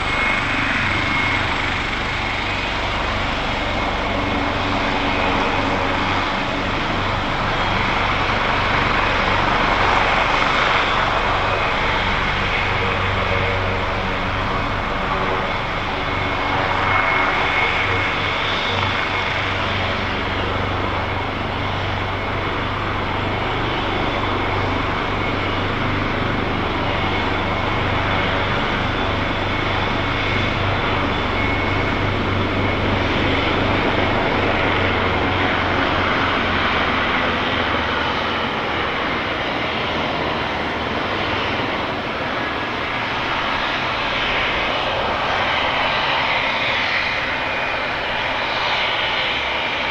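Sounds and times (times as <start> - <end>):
deep rotor hum: 0.0 - 49.9
helicopter turbine whine: 0.0 - 49.9.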